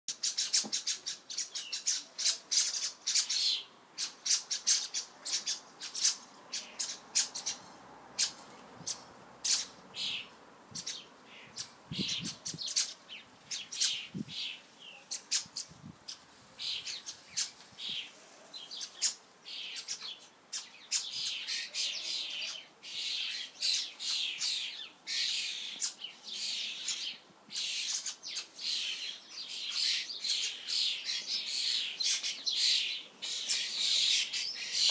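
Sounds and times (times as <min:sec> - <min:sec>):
starlings squawking and chirping: 0:00.1 - 0:34.9.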